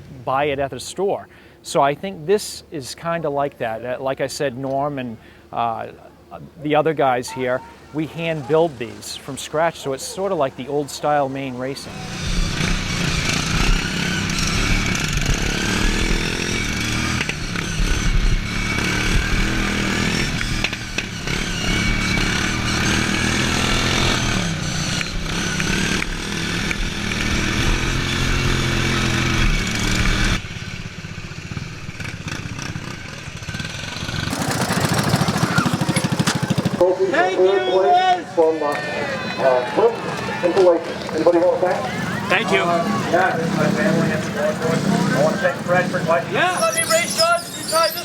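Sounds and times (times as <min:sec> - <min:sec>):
racing lawnmower engines revving: 0:07.4 - 0:48.0.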